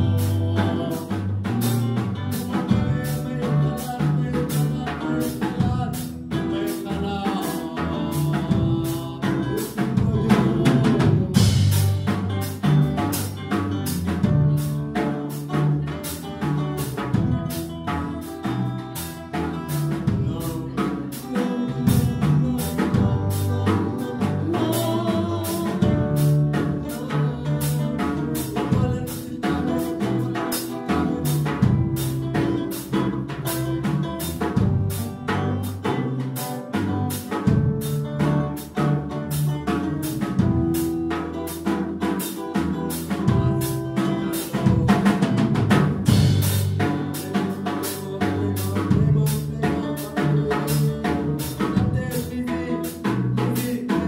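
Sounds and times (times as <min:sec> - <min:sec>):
drum kit beat: 0:00.0 - 0:54.0
electric guitars: 0:00.0 - 0:54.0
low bass notes: 0:00.0 - 0:54.0.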